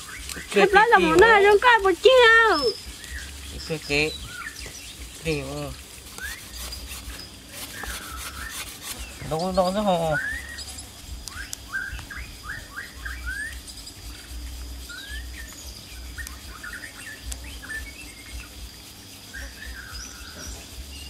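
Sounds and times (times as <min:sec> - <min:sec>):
faint high whine: 0:00.0 - 0:21.0
small bird chirping: 0:00.0 - 0:21.0.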